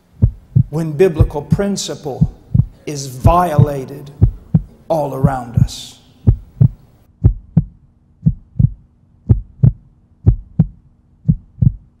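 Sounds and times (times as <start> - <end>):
faint steady hum: 0.0 - 12.0
heartbeat thumps: 0.1 - 12.0.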